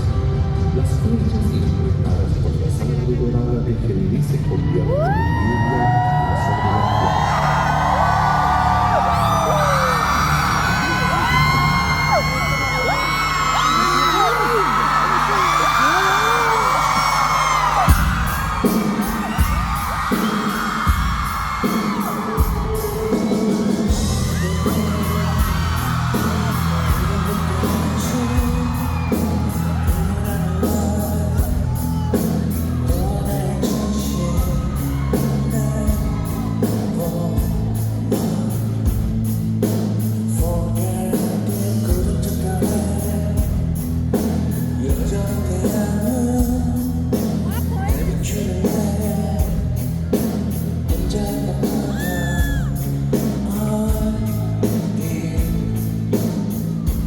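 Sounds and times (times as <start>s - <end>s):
live pop music with bass: 0.0s - 57.0s
fans screaming: 4.2s - 39.0s, 44.1s - 57.0s.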